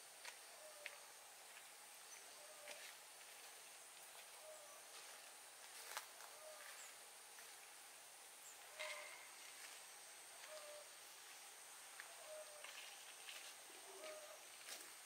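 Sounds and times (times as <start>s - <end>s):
high insect-like hiss: 0.0s - 15.0s.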